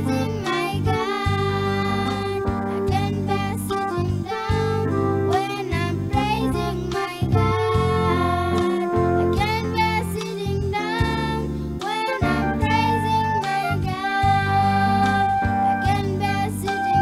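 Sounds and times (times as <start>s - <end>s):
children's choir singing: 0.0s - 17.0s
instrumental backing with bass: 0.0s - 17.0s.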